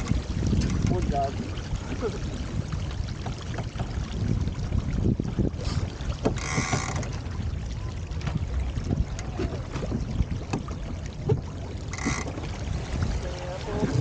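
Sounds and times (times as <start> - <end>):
water rushing along hull: 0.0 - 14.0
wind rumbling on microphone: 0.0 - 14.0.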